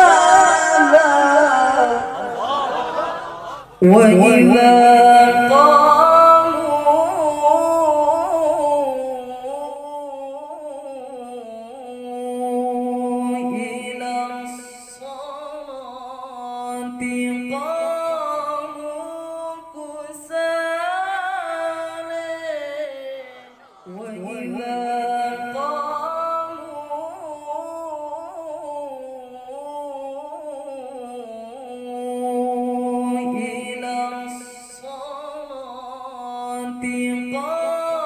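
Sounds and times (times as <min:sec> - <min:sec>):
man reciting melodically: 0:03.6 - 0:38.0.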